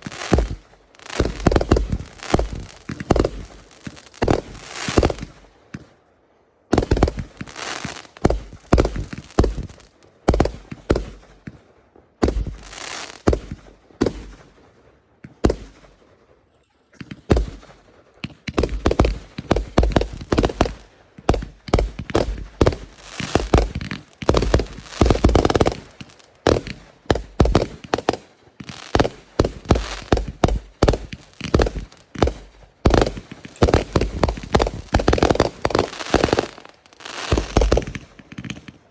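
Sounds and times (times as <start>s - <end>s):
fireworks bangs: 0.0s - 6.0s, 6.7s - 16.0s, 17.0s - 38.9s.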